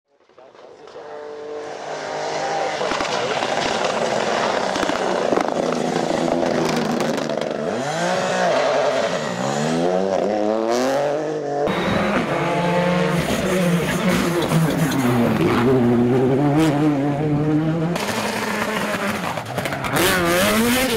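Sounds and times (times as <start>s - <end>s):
rally car engine revving: 0.5s - 20.9s.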